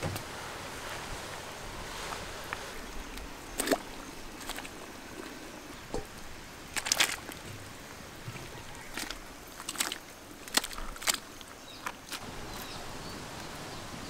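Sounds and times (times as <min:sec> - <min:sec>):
splashing into boiling water: 0:00.0 - 0:12.3
boiling water bubbling: 0:00.0 - 0:12.5.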